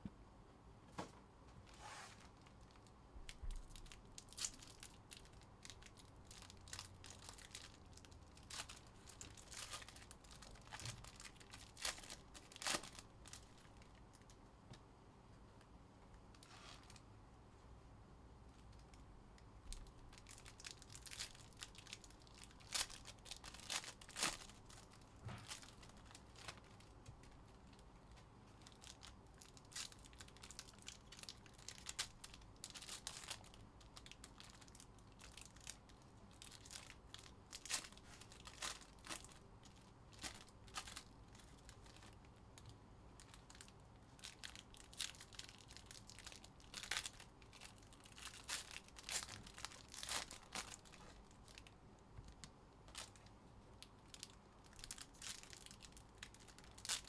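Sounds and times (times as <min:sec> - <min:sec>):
foil wrappers crinkling and tearing: 0:02.2 - 0:14.3, 0:19.7 - 0:27.8, 0:28.6 - 0:51.7, 0:54.1 - 0:57.0.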